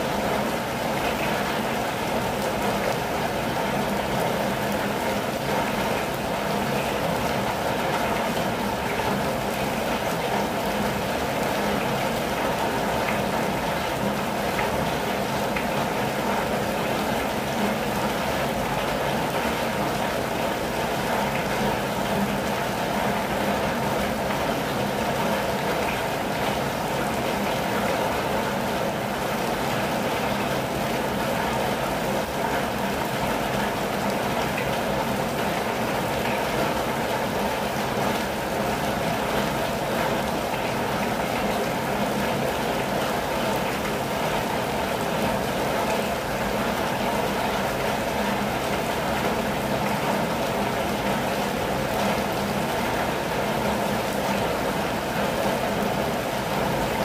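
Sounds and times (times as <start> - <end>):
rain on a campervan roof: 0.0 - 57.0.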